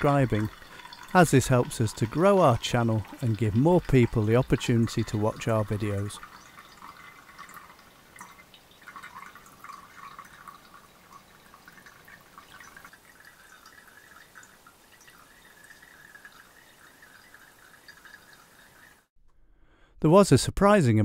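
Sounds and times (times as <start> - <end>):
liquid trickling and dripping: 0.0 - 19.1.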